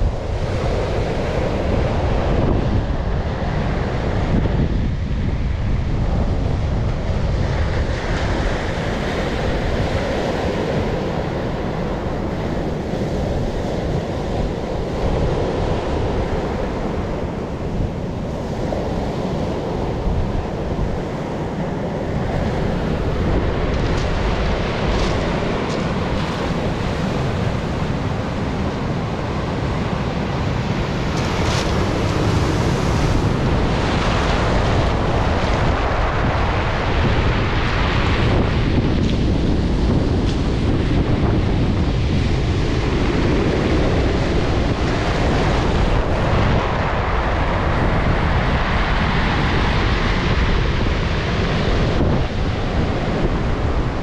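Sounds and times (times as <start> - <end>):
surf washing on pebble beach: 0.0 - 54.0
wind buffeting microphone: 0.0 - 54.0.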